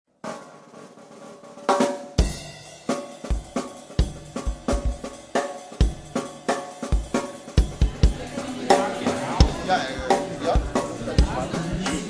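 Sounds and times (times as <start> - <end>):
music: 0.1 - 12.0
drum kit beat: 0.2 - 12.0.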